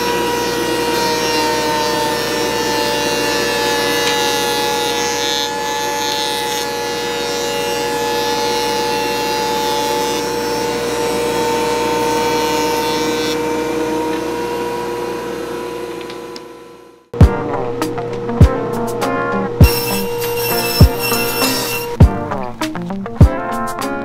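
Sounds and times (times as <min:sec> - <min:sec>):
thicknessing machine cutting wood: 0:00.0 - 0:22.0.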